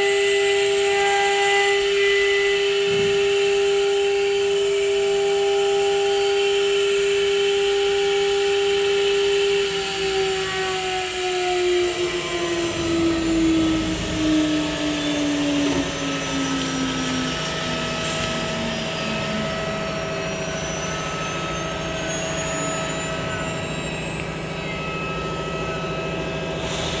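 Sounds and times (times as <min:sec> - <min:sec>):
faint high whine: 0:00.0 - 0:27.0
router machine hum: 0:00.0 - 0:27.0
spindle whine: 0:00.0 - 0:27.0.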